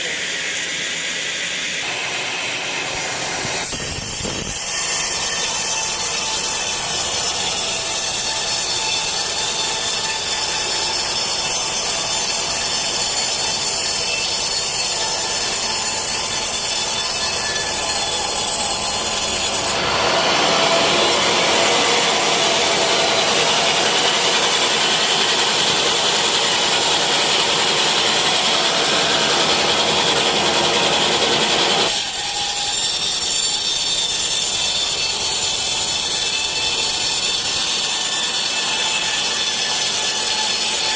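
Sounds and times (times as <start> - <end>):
saw cutting wood: 0.0 - 40.9.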